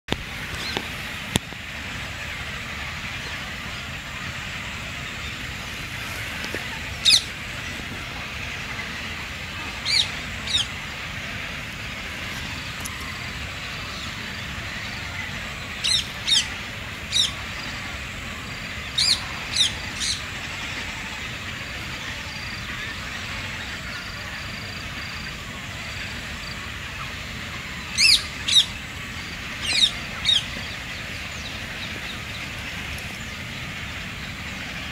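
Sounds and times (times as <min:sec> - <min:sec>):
birds calling high and sharp: 0:00.1 - 0:01.5, 0:03.0 - 0:08.0, 0:08.7 - 0:21.4, 0:25.9 - 0:34.9
background hiss: 0:00.1 - 0:34.9.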